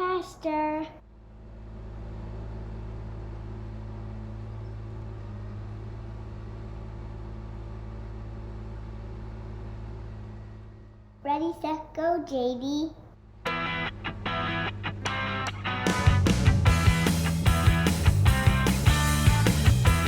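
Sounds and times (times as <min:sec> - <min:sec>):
small tracked loader engine running: 0:01.2 - 0:11.2, 0:13.4 - 0:20.0.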